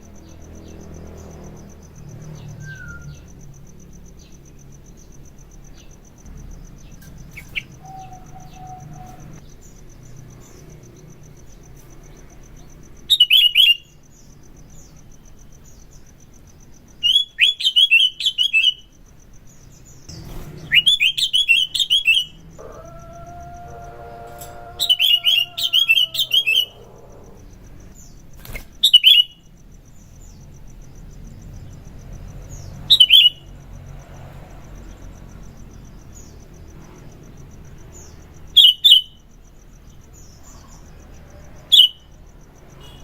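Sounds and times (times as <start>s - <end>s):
high insect trill: 0.0s - 43.0s.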